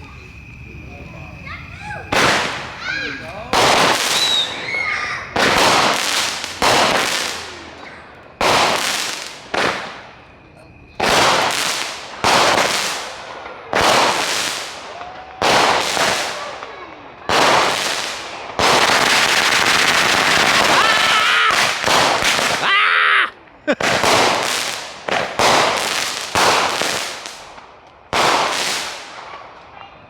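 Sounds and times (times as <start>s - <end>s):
rising firework whistle: 0.0s - 29.4s
firework crackling: 0.0s - 29.8s
firework bangs: 0.0s - 30.0s.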